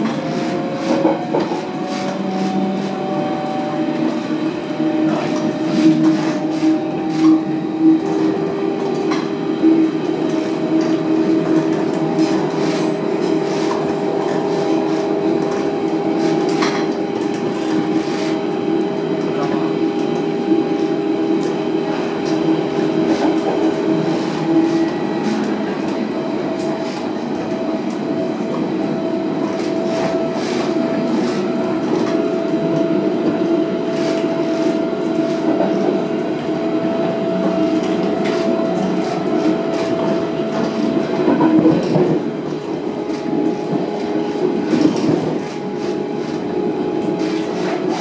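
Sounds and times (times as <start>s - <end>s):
electric train whine: 0.0s - 48.0s
train running gear rumble: 0.0s - 48.0s.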